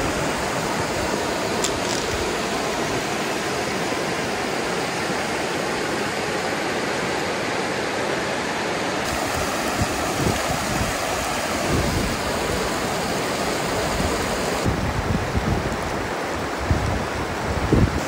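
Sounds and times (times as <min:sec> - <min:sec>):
stream water rushing over rock: 0:00.0 - 0:18.0.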